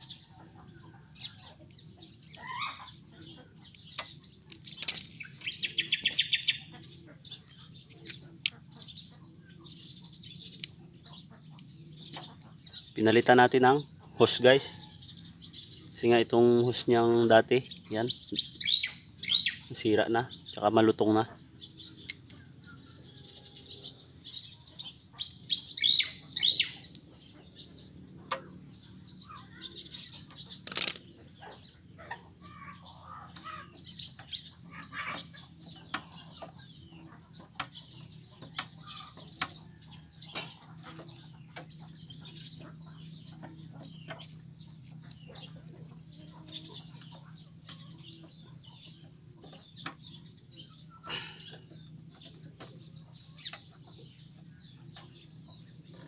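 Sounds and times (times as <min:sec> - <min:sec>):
birds chirping: 0:00.0 - 0:56.0
low steady hum: 0:00.0 - 0:56.0.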